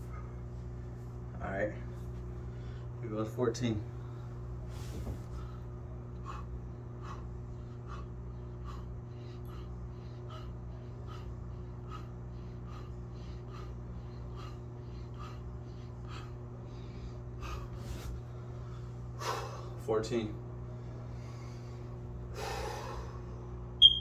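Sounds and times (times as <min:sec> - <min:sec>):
steady low hum: 0:00.0 - 0:24.0
man breathing: 0:02.3 - 0:03.0, 0:03.9 - 0:19.8, 0:20.6 - 0:23.6.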